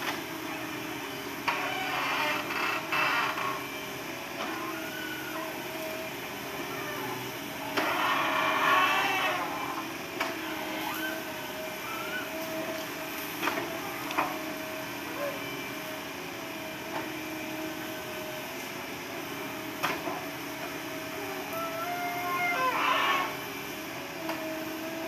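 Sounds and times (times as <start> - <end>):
excavator running with whine: 0.0 - 25.0.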